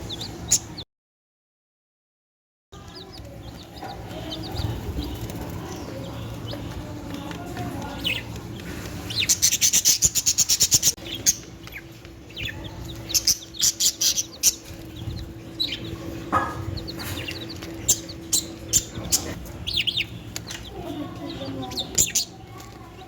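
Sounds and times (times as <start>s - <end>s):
small birds chirping: 0.0s - 0.8s, 2.8s - 23.0s.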